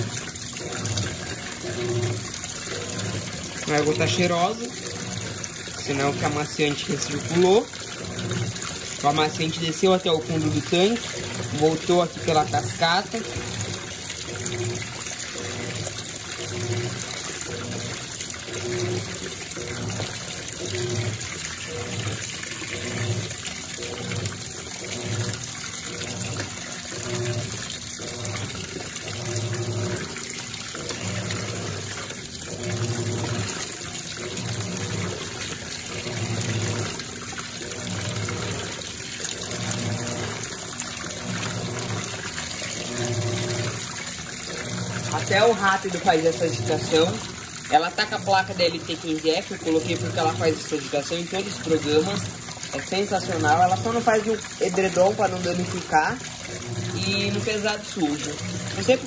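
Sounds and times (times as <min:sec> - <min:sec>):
pulsing motor hum: 0:00.0 - 0:59.0
water pouring: 0:00.0 - 0:59.0
water sloshing in washing machine: 0:00.0 - 0:59.0.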